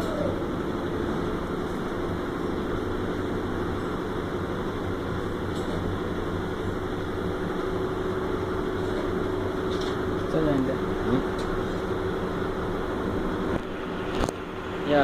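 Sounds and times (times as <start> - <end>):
industrial machinery humming: 0.0 - 15.0.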